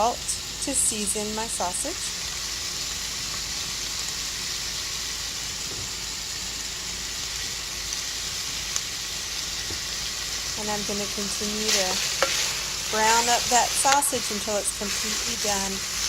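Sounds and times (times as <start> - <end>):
sausage sizzling in oil: 0.0 - 16.0.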